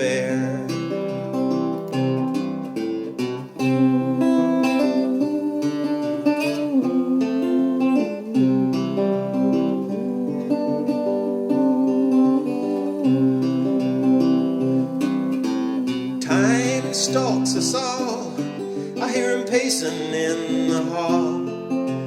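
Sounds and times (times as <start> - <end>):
acoustic guitar chords: 0.0 - 22.0.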